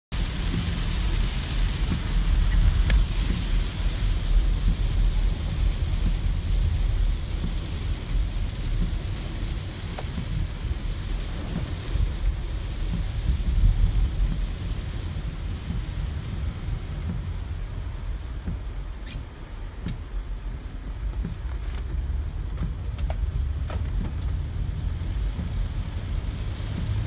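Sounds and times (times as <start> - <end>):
car tyres rumbling on wet road: 0.1 - 27.0
rain hissing on car: 0.1 - 27.0.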